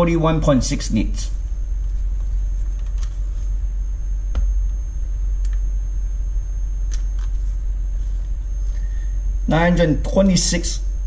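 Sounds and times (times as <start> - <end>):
high-pitched whine: 0.0 - 11.0
low hum: 0.0 - 11.0
steady low rumble: 0.0 - 11.0.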